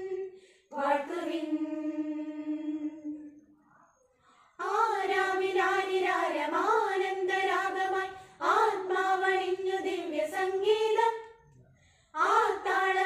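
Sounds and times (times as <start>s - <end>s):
women's choir singing a carol: 0.0s - 3.4s, 4.5s - 11.4s, 12.1s - 13.0s.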